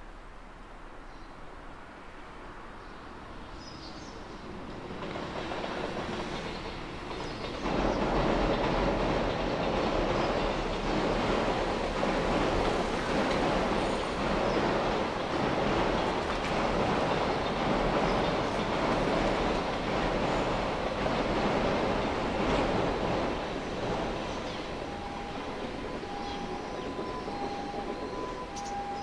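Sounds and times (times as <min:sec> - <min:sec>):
train passing: 0:01.8 - 0:29.0.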